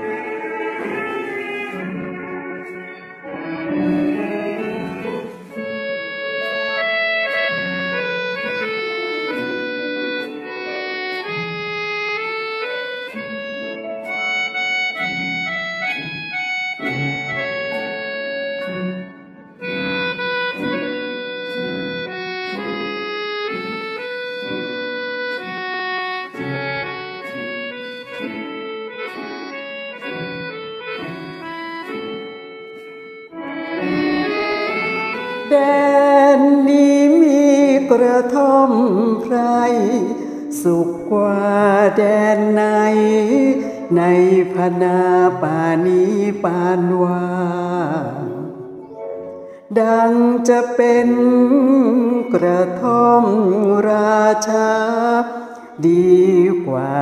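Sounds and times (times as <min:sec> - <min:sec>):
slow instrumental karaoke melody: 0:00.0 - 0:57.0.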